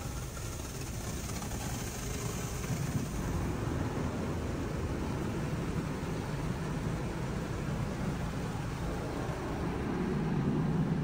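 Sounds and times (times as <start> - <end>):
water sprays pelting car: 0.0 - 11.0.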